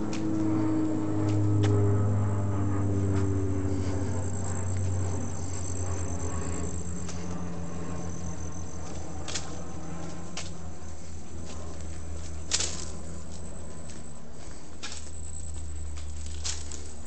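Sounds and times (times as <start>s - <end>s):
footstep scuffs on paving: 0.0s - 1.9s, 3.0s - 17.0s
low engine hum: 0.0s - 17.0s
high insect trill: 3.1s - 17.0s.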